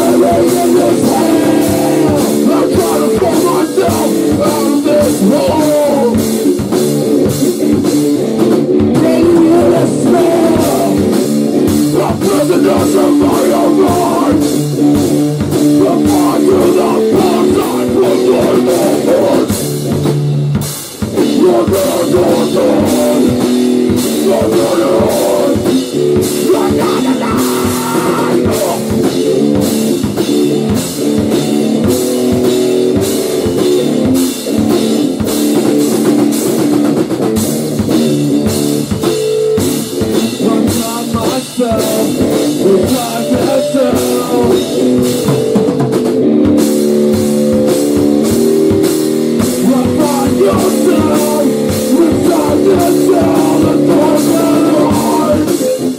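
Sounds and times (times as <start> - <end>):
drum kit fast beat: 0.0 - 55.9
loud rock band playing: 0.0 - 55.9.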